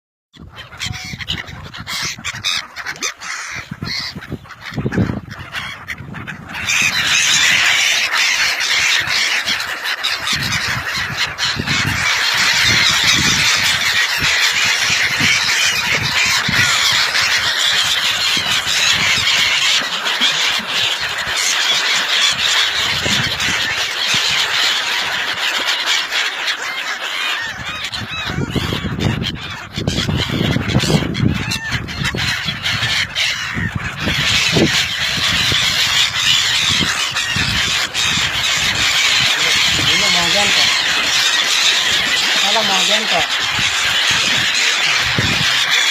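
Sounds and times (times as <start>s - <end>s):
flock of waterbirds calling: 0.4s - 45.9s.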